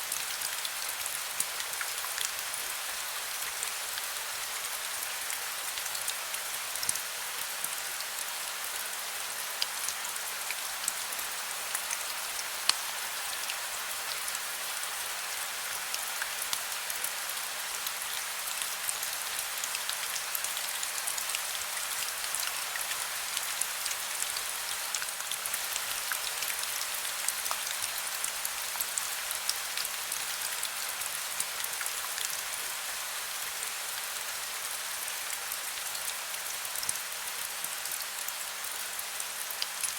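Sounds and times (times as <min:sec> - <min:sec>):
heavy rain: 0:00.1 - 0:39.9.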